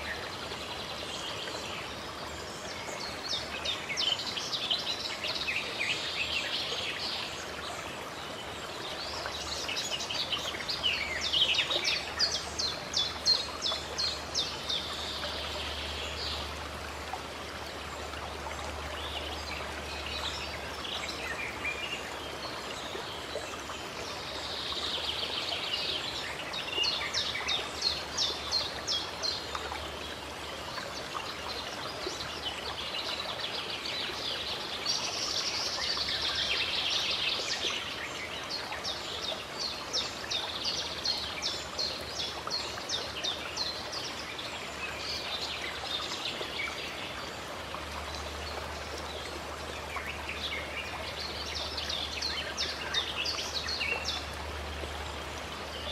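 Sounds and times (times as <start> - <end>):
stream rushing: 0.0 - 55.9.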